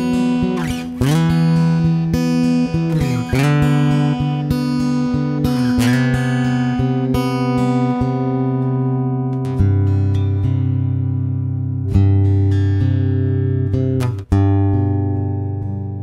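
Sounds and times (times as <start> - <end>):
fingerstyle acoustic guitar: 0.0 - 16.0.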